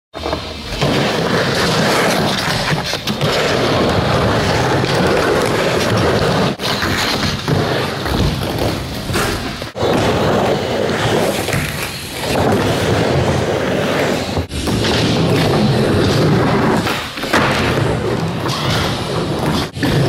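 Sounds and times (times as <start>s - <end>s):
skateboard rolling on wooden ramp: 0.2s - 20.0s.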